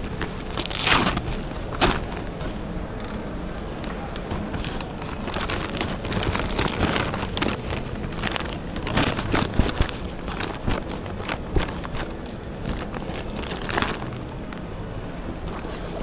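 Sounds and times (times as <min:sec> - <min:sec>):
crackles and knocks: 0:00.0 - 0:16.0.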